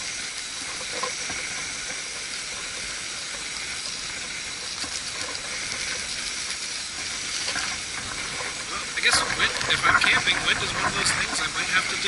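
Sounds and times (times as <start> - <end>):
camping stove hissing: 0.0 - 12.0
wind blowing: 0.0 - 12.0.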